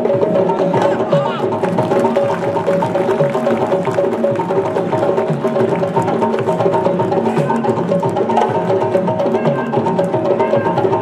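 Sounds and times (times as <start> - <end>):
drums playing fast rhythm: 0.0 - 11.0.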